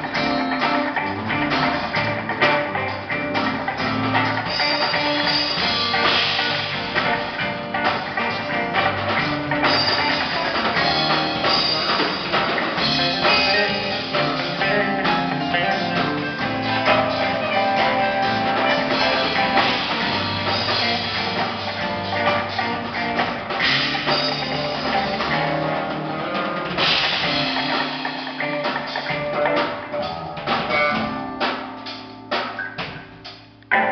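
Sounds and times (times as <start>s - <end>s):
rock band playing live: 0.0s - 33.9s.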